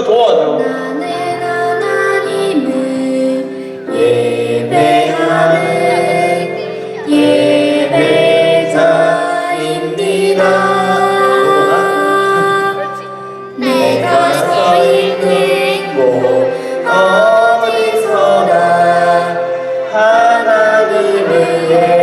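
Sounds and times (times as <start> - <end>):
voices singing worship song: 0.0 - 22.0.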